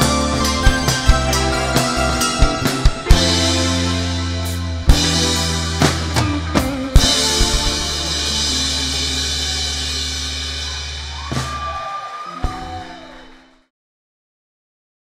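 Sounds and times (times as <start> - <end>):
drum hits: 0.0 - 13.0
rock band held final chord: 0.0 - 13.3.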